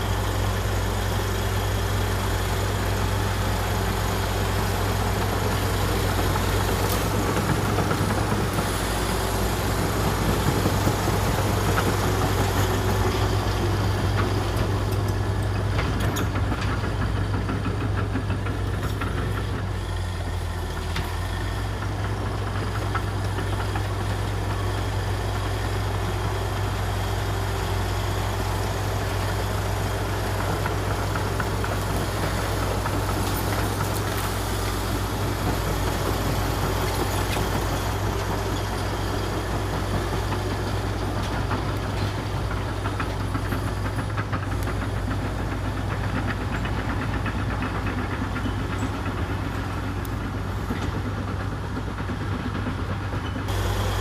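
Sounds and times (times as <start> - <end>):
bulldozer diesel engine running: 0.0 - 54.0
tracks clanking: 0.0 - 54.0.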